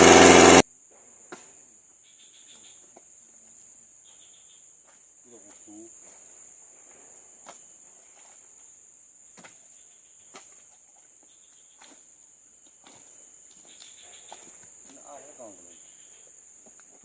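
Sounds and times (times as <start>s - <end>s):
insects chirring: 0.1s - 17.0s.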